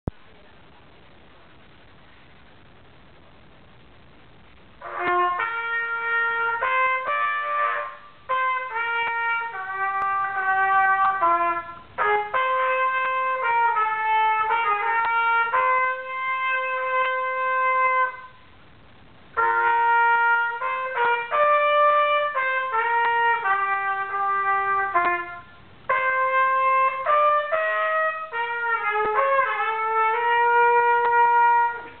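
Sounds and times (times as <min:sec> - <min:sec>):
solo trumpet melody: 0:04.8 - 0:18.5, 0:19.3 - 0:32.0.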